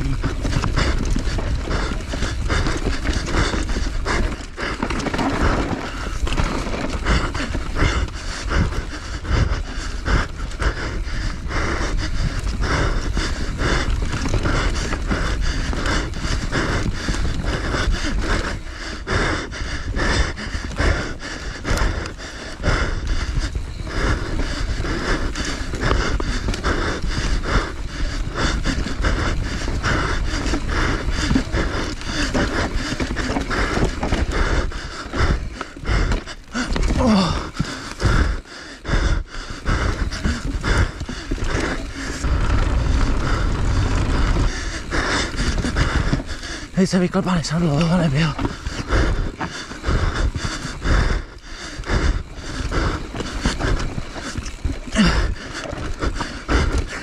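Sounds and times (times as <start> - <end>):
rider panting hard: 0.0 - 57.0.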